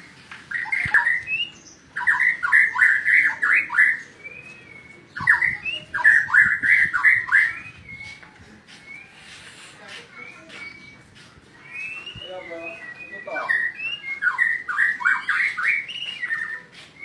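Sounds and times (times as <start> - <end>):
songbird singing rich sweeping notes: 0.0 - 17.0.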